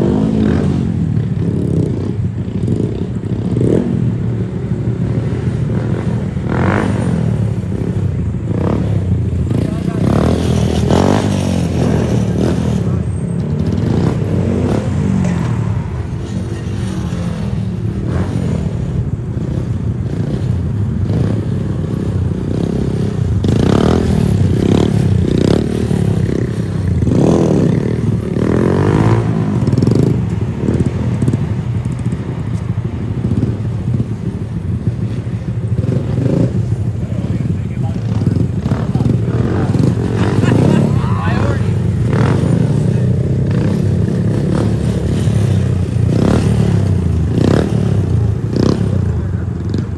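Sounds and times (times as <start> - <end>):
mini bike engines revving: 0.0 - 49.9.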